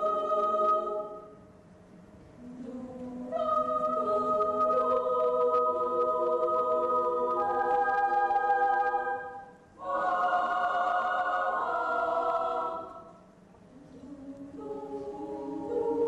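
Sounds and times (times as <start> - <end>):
children's choir singing: 0.0 - 1.4, 2.4 - 16.0.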